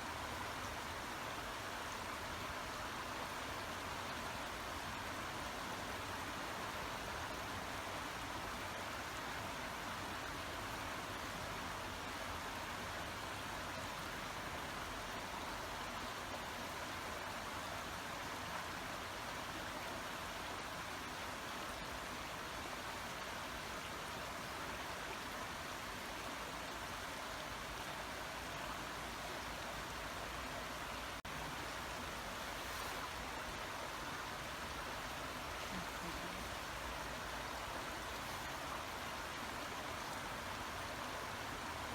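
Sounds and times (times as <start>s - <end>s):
brook water running: 0.0s - 41.9s.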